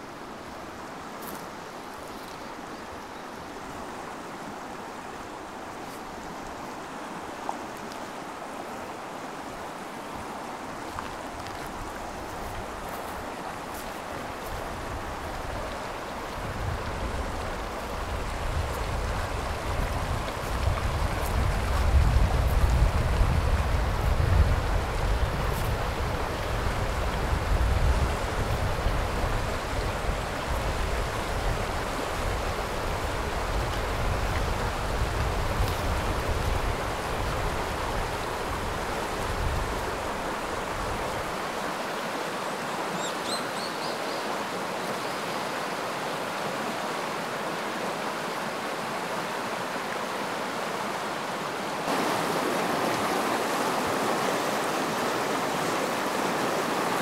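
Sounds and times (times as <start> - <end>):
river rushing over stones: 0.0 - 57.0.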